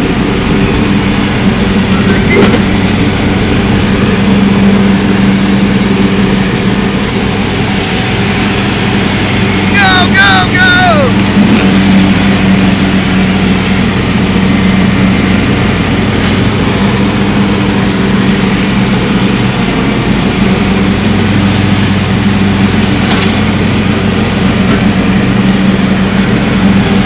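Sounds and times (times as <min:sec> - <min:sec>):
riding lawn mower engine running: 0:00.0 - 0:27.0.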